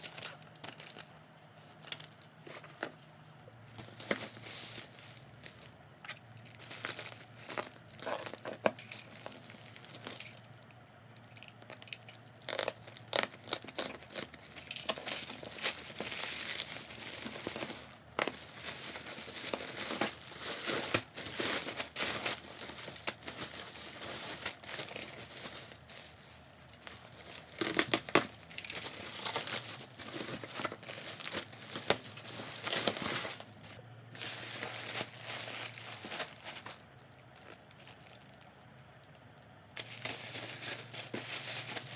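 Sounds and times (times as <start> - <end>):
packaging crinkling and tearing: 0.0 - 1.2, 3.7 - 10.6, 11.3 - 41.9.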